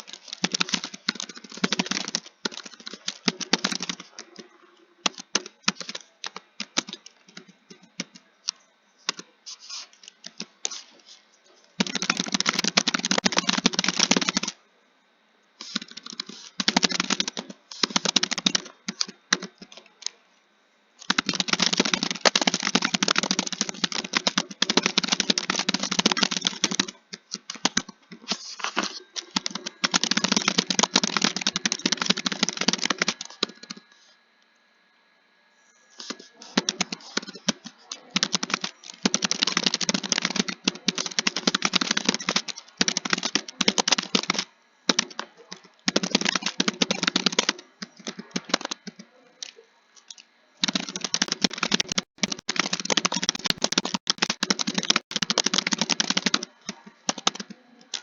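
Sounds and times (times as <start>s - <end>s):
keyboard typing: 0.0s - 14.6s, 15.6s - 20.2s, 21.0s - 34.1s, 36.0s - 58.0s.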